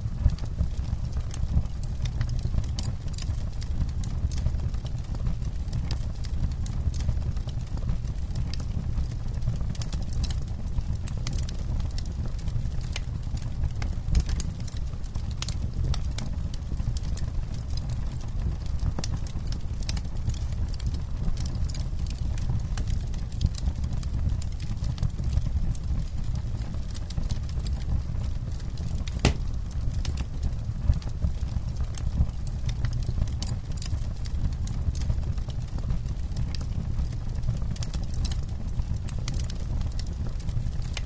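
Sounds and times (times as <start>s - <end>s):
low fire rumble: 0.0s - 41.0s
campfire crackling and popping: 0.1s - 41.0s.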